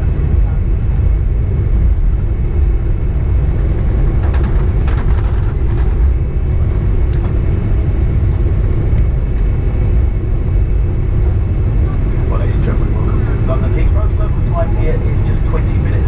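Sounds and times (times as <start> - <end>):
aircraft cabin low rumble: 0.0 - 16.0.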